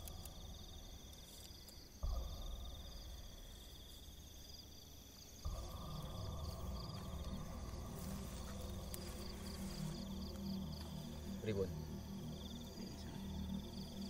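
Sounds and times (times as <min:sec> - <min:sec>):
crickets chirping: 0:00.0 - 0:14.0
low steady rumble: 0:02.1 - 0:14.0.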